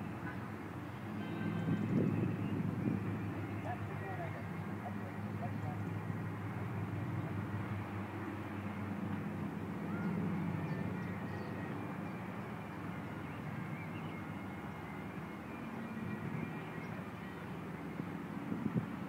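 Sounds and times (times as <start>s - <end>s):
propeller aircraft engines drone: 0.0s - 19.0s.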